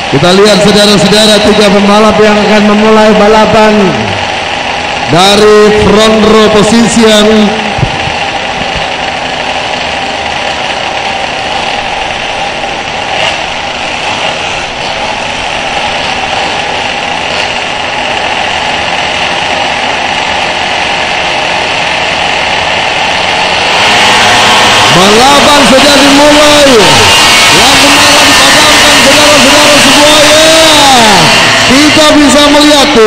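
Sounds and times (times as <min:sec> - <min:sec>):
small two-stroke engines buzzing: 0:00.0 - 0:33.0.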